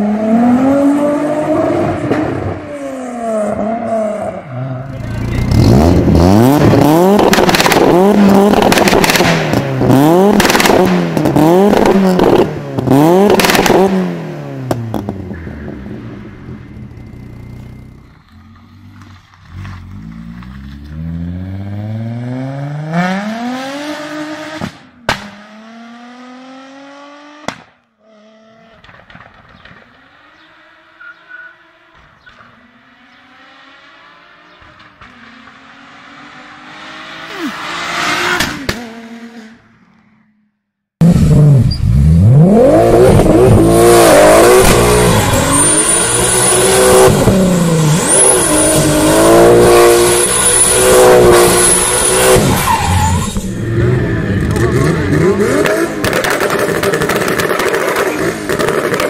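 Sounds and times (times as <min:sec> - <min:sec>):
car engine accelerating: 0:00.0 - 0:39.8, 0:41.0 - 0:59.0.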